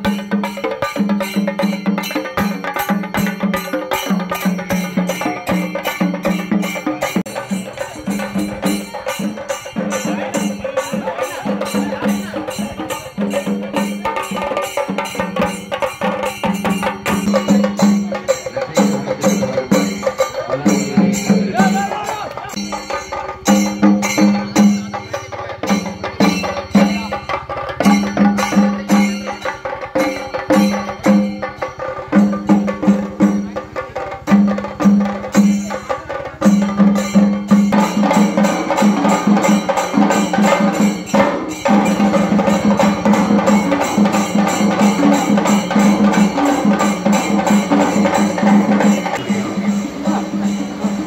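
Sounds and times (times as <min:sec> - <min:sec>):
drums playing: 0:00.0 - 0:51.0.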